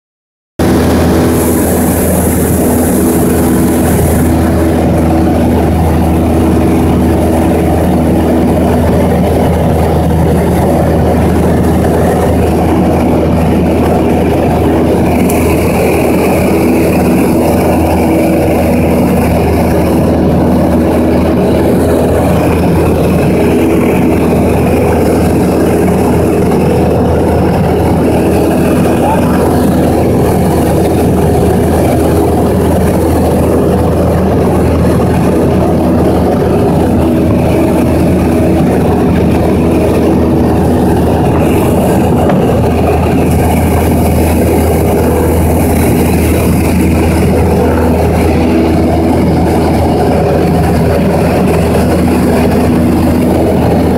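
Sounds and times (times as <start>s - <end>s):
aircraft engine and propeller: 0.6s - 53.9s.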